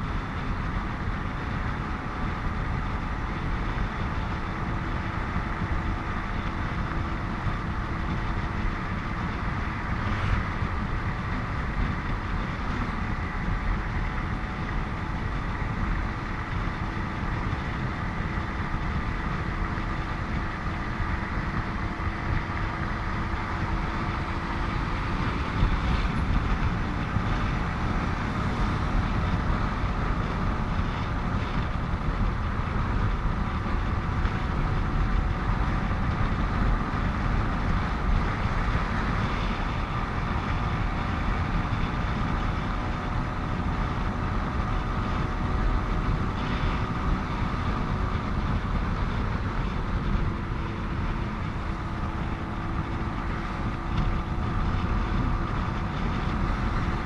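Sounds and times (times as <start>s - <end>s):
motorcycle engine: 0.0s - 57.0s
surrounding traffic: 0.0s - 57.0s
wind rush on microphone: 0.0s - 57.0s.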